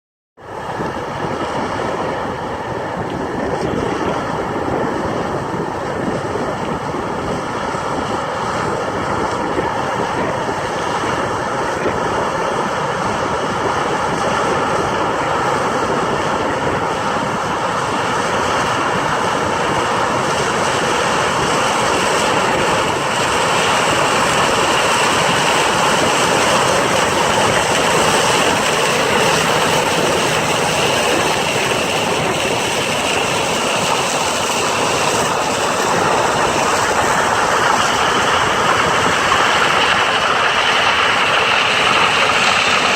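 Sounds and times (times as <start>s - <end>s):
combine harvester running: 0.4s - 42.9s.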